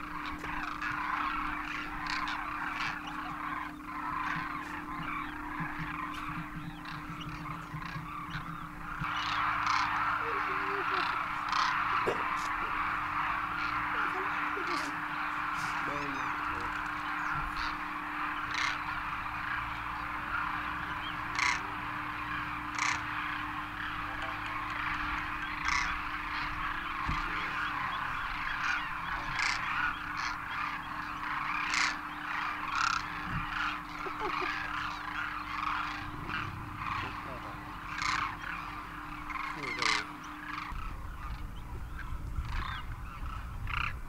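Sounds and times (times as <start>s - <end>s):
cranes honking and croaking: 0.0s - 44.0s
faint steady hum: 0.0s - 44.0s.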